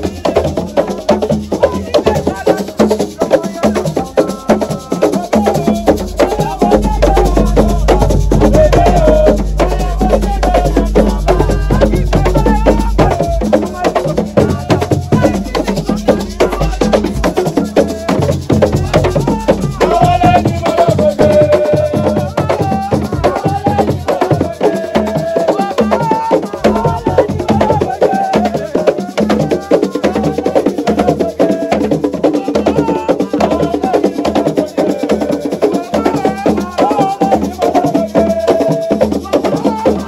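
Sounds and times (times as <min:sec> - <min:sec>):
fast hand percussion clacking: 0:00.0 - 0:40.0
person singing wavering melody: 0:00.0 - 0:40.0.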